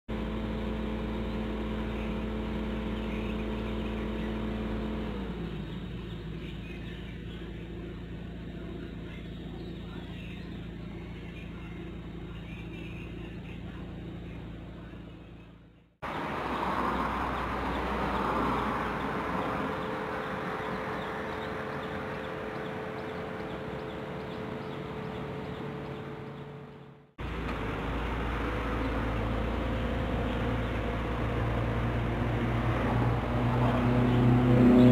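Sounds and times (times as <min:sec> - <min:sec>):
car engine idling: 0:00.1 - 0:34.9
outdoor background hum: 0:00.1 - 0:34.9
birds chirping: 0:00.5 - 0:34.9.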